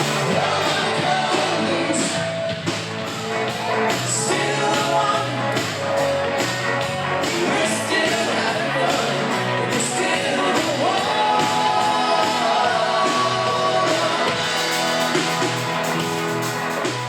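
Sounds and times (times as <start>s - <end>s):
lead vocal singing: 0.0s - 2.8s, 3.6s - 6.1s, 7.0s - 16.2s
soft-rock band playing: 0.0s - 17.0s.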